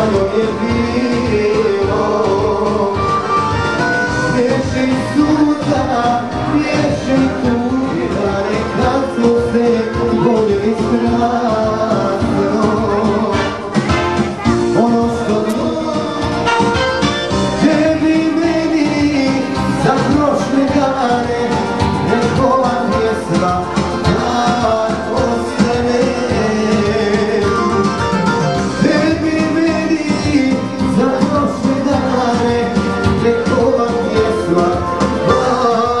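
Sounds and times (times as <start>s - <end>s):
music with singing and steady beat: 0.0s - 36.0s.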